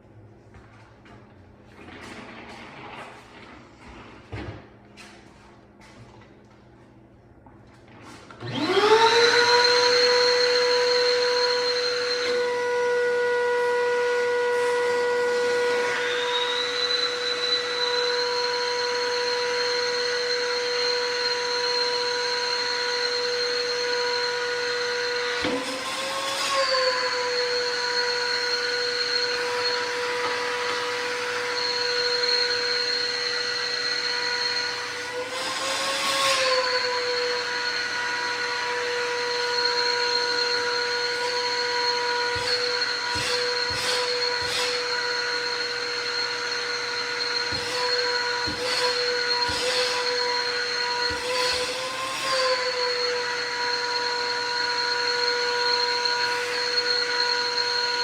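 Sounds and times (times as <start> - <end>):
wet dry vacuum motor whine: 7.7 - 58.0.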